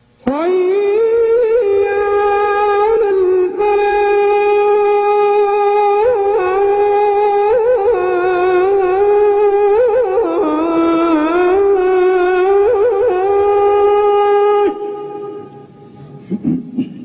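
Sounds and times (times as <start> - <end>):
man chanting call to prayer: 0.3 - 15.8.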